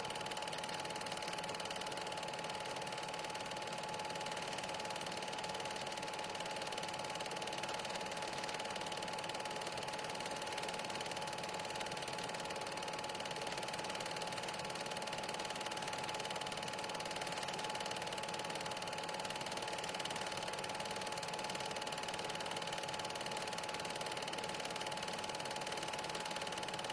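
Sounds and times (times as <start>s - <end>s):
film projector whirring: 0.0s - 26.9s.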